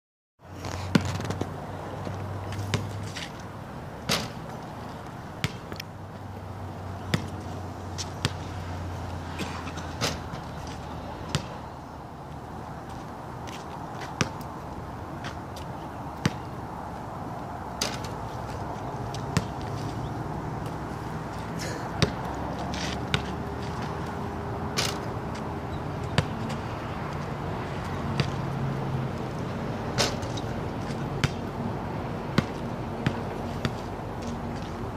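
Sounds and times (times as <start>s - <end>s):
basketball bouncing on asphalt: 0.6s - 11.7s, 12.3s - 34.8s.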